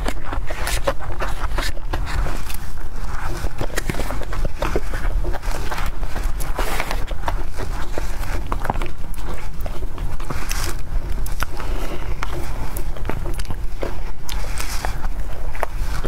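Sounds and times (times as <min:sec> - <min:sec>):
wet chewing with mouth clicks: 0:00.0 - 0:16.0.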